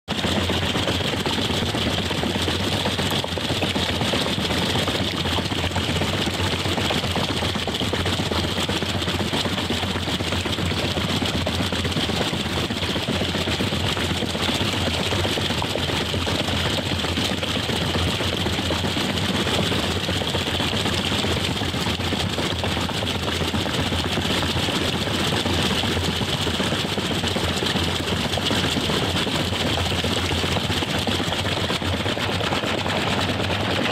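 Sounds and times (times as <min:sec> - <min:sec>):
water turbine rushing water: 0:00.1 - 0:33.9.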